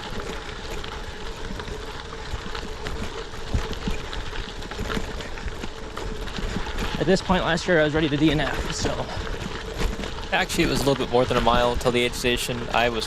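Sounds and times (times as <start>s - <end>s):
bike rattling: 0.0s - 13.0s
bike tyres on gravel: 0.0s - 13.0s.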